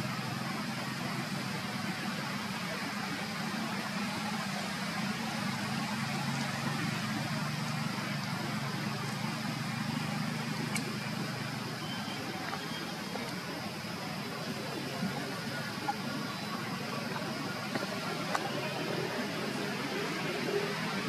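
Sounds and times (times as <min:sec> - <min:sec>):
constant hiss: 0:00.0 - 0:21.0
low engine hum: 0:00.0 - 0:21.0.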